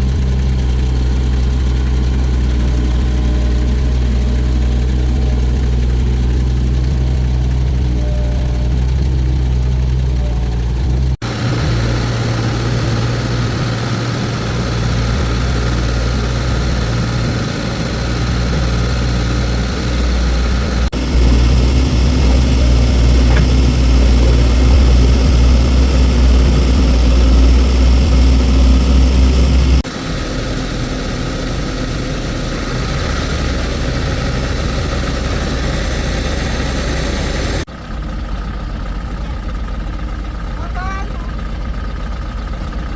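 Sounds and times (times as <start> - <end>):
vehicle engine idling: 0.0 - 42.9.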